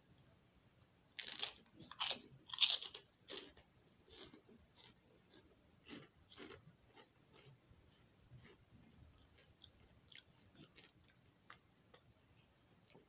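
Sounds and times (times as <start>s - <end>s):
crunchy chewing: 1.2s - 12.1s.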